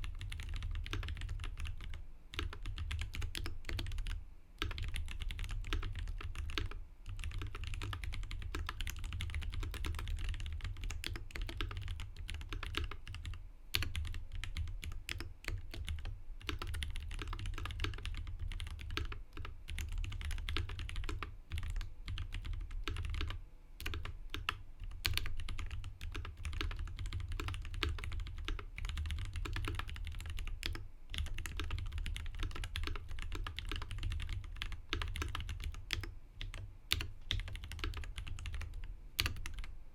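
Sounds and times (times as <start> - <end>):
fast typing on mechanical keyboard: 0.0 - 39.7.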